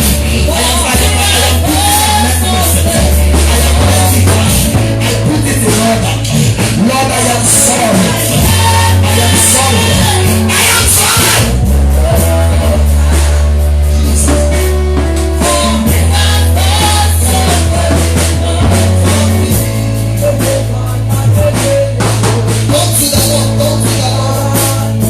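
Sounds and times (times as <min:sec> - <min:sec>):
gospel band playing: 0:00.0 - 0:25.0
people singing: 0:00.0 - 0:25.0.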